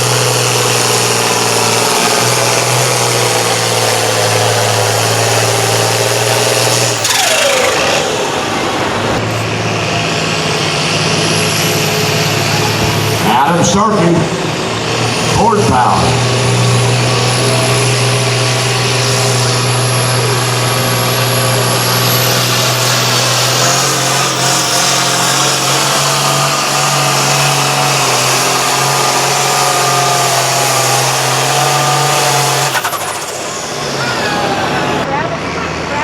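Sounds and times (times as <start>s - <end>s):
tractor engine at full throttle: 0.0s - 36.0s.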